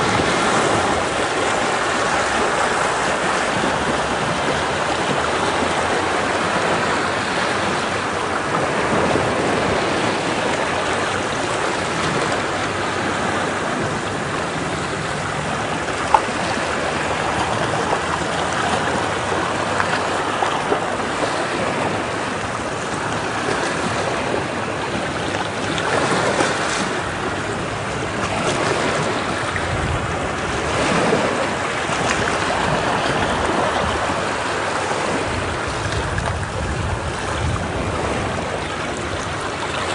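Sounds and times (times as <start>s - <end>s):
ocean waves washing against rocks: 0.0s - 39.9s.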